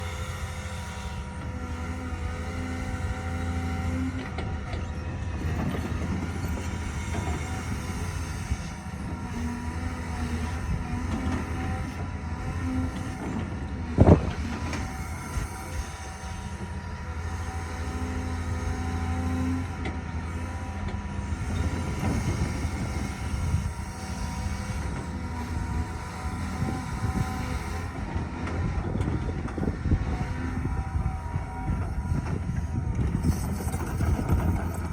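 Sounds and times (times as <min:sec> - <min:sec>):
diesel construction machinery droning: 0:00.0 - 0:34.9.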